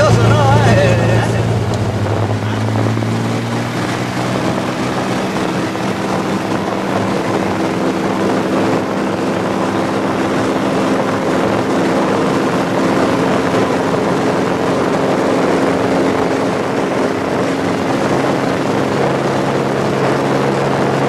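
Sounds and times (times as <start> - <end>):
propeller plane engine running: 0.0 - 21.0.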